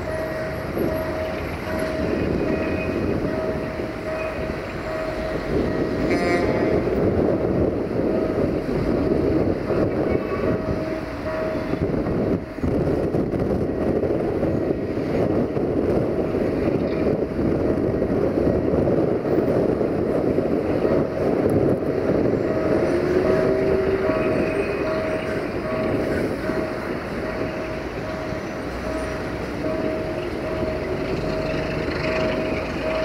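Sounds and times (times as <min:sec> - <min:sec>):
diesel locomotive engine drumming: 0:00.0 - 0:33.0
freight train rumble: 0:00.0 - 0:33.0.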